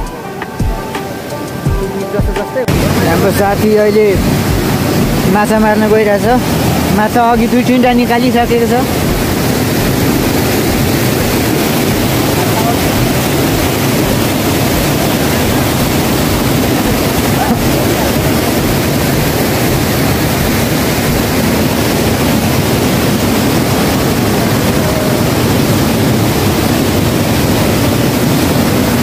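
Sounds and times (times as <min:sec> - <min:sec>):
waterfall rushing over rocks: 0:00.0 - 0:29.0.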